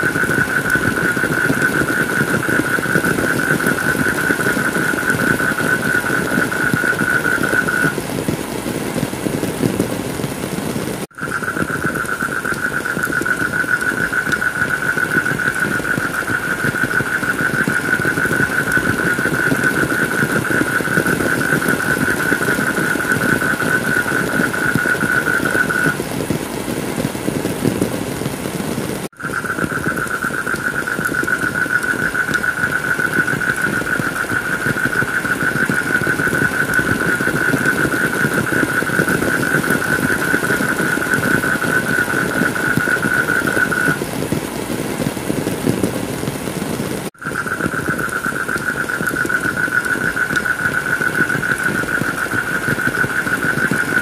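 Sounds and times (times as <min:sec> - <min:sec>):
heavy rain: 0:00.0 - 0:54.0
high steady hiss: 0:00.0 - 0:54.0.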